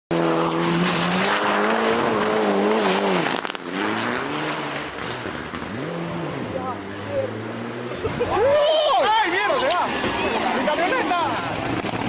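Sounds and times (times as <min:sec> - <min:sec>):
rally car engine revving: 0:00.1 - 0:12.0.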